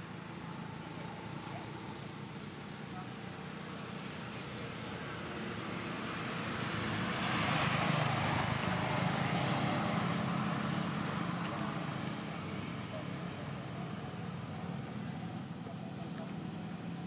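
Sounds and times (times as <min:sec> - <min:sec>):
vehicle passing by: 0:00.2 - 0:17.0.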